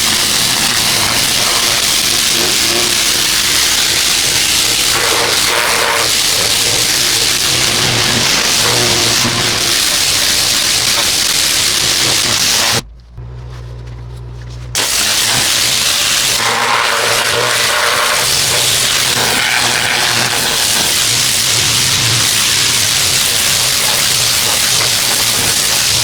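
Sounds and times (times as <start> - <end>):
pressure washer spray hissing: 0.0 - 12.8, 14.8 - 26.0
motor hum: 0.0 - 26.0.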